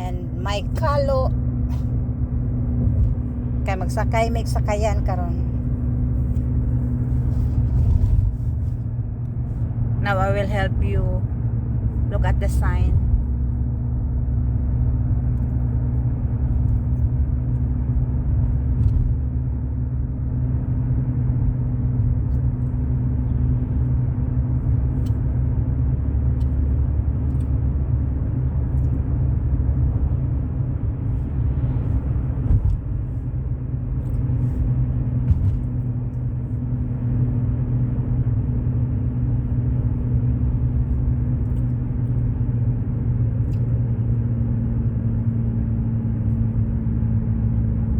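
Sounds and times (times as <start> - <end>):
car engine and road noise: 0.0 - 47.9
low hum: 0.0 - 47.9.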